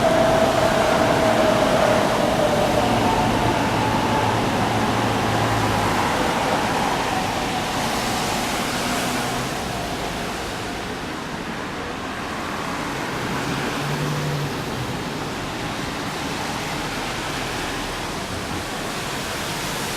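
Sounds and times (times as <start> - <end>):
train rushing: 0.0 - 19.9.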